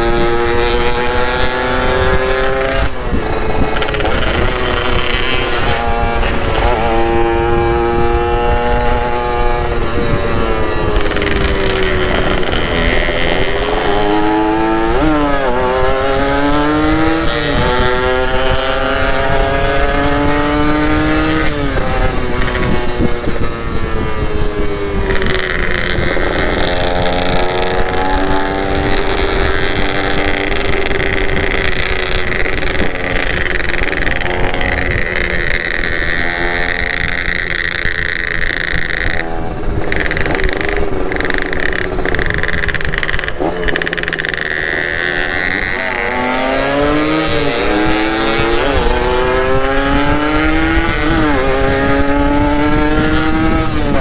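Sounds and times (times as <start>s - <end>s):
two-stroke motorcycle engine revving: 0.0s - 54.0s
wind rumble on microphone: 0.0s - 54.0s.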